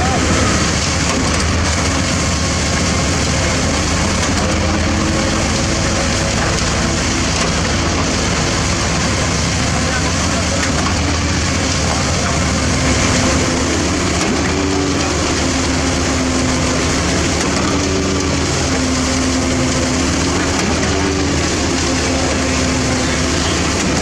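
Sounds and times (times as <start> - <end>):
heavy diesel machinery running: 0.0 - 24.0.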